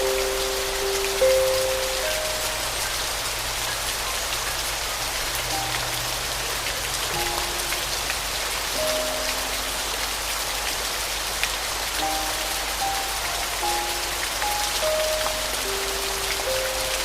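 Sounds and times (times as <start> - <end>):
soft piano notes: 0.0 - 17.0
steady rain: 0.0 - 17.0.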